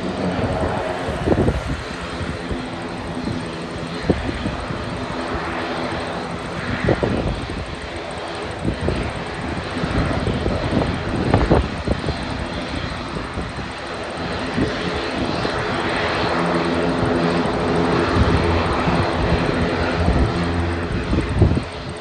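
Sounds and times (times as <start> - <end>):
propeller engine drone: 0.0 - 22.0
wind buffeting microphone: 0.0 - 22.0.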